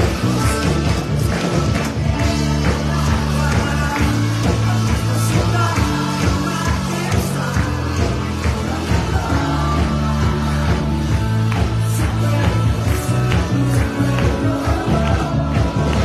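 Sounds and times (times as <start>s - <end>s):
bass line: 0.0s - 16.0s
drums: 0.0s - 16.0s
live band music: 0.0s - 16.0s
people singing: 0.0s - 16.0s.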